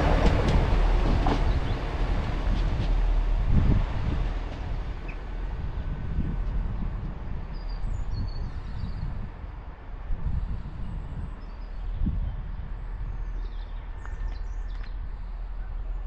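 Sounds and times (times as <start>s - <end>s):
diesel train pulling away: 0.0s - 16.0s
wind buffeting microphone: 0.0s - 16.0s.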